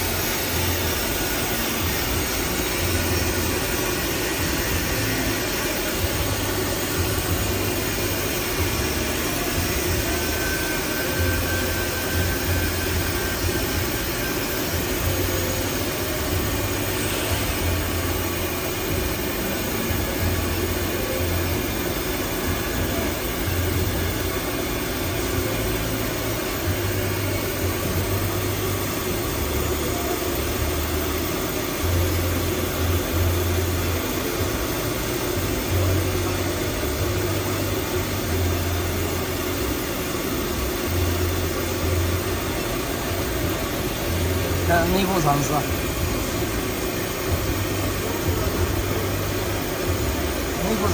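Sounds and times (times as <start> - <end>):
factory machinery drone: 0.0 - 50.9.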